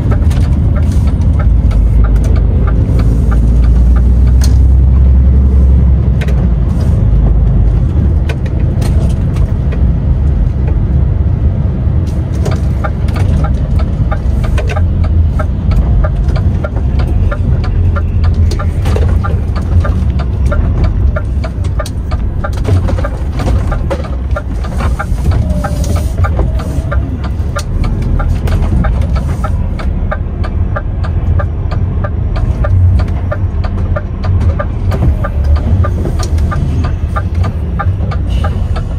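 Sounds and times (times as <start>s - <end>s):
truck engine and road drone: 0.0s - 38.9s.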